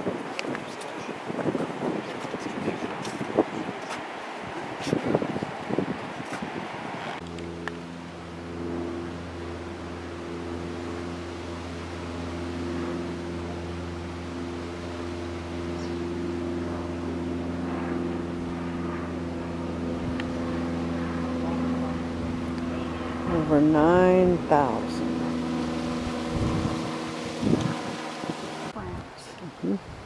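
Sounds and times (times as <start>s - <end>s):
vehicle engine hum: 2.4s - 29.7s.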